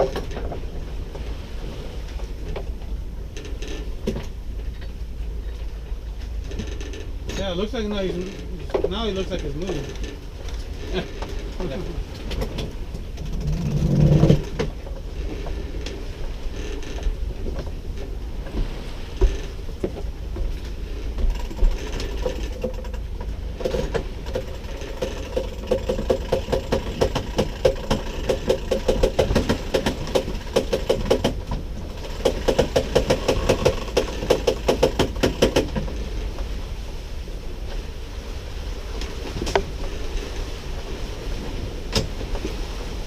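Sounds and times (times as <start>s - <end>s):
boat noise: 0.0s - 43.0s.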